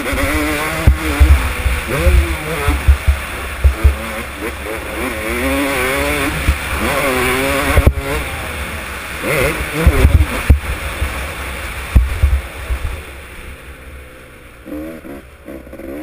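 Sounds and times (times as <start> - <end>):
wind rumble on microphone: 0.0 - 13.8
dirt bike engine revving: 0.0 - 16.0.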